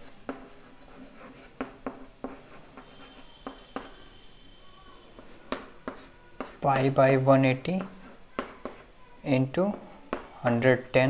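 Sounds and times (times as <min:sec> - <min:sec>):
chalk writing on chalkboard: 0:00.0 - 0:04.2, 0:05.1 - 0:09.0, 0:09.6 - 0:11.0.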